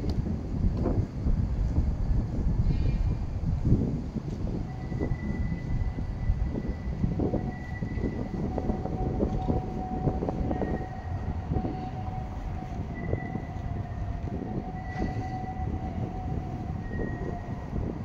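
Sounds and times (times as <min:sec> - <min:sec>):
tram rumble and whine: 0:00.0 - 0:18.0.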